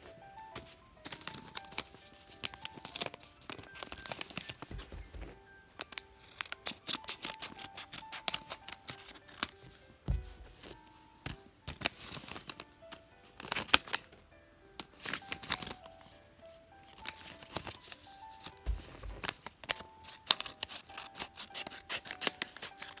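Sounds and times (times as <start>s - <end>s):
background music: 0.0s - 23.0s
packaging crinkling: 0.5s - 16.2s, 16.9s - 23.0s.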